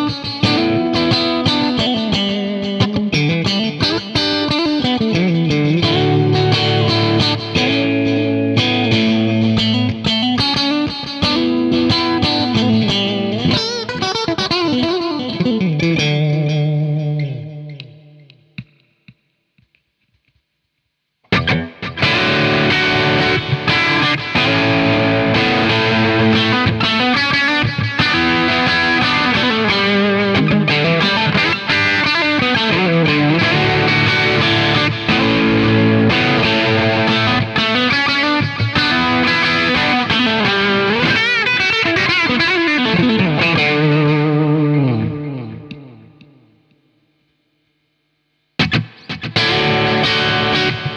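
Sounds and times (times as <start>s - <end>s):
electric guitar lead line: 0.0s - 18.4s, 21.3s - 47.0s, 48.6s - 50.9s.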